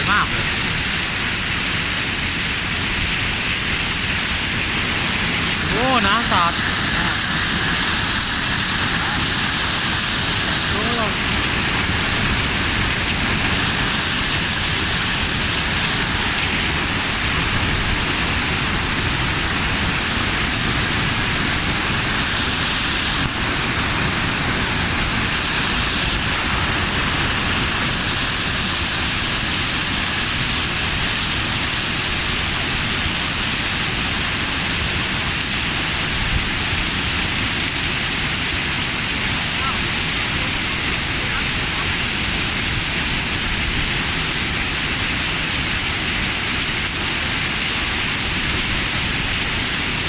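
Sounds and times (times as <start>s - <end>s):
waterfall rushing and splashing: 0.0s - 50.0s.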